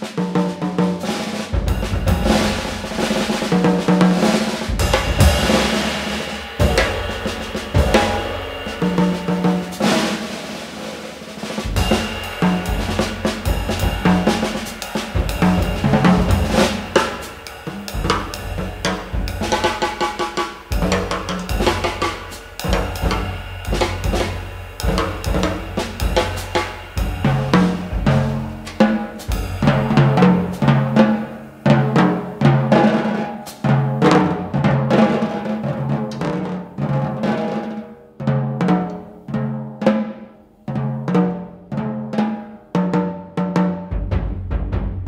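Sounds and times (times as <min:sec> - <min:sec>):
jazz drum kit: 0:00.0 - 0:45.0.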